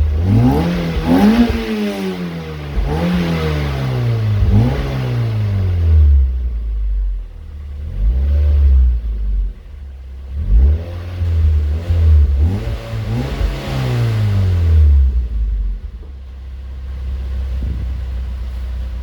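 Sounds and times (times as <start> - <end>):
car engine revving and idling: 0.0 - 19.0.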